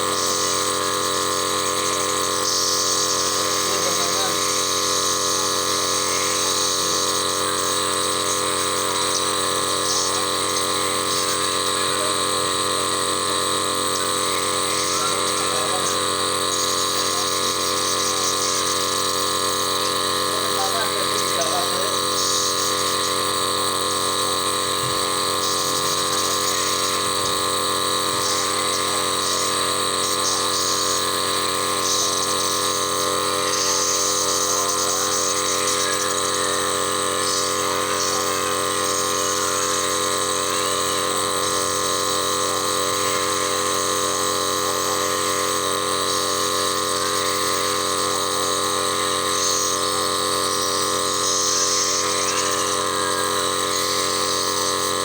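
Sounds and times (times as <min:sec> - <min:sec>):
nebulizer motor and pump hum: 0:00.0 - 0:55.0.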